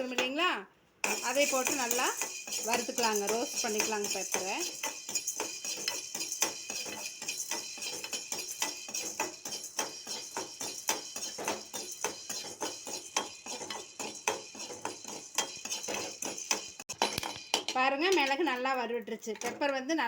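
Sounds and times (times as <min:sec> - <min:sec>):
peppercorns rattling in a pan: 0:01.0 - 0:18.8.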